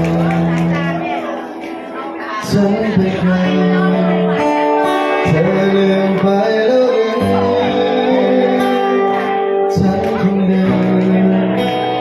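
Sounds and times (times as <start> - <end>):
guitar-led backing music: 0.0 - 12.0
person singing live: 0.0 - 12.0.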